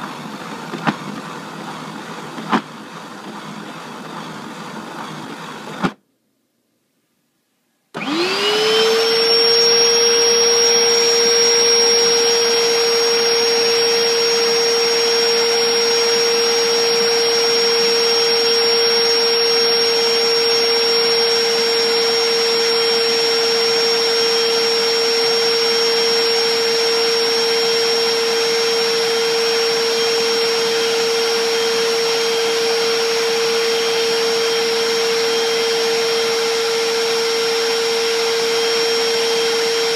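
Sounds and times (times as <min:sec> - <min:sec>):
spot cleaner motor whine: 0:00.0 - 0:06.0, 0:08.0 - 0:39.9.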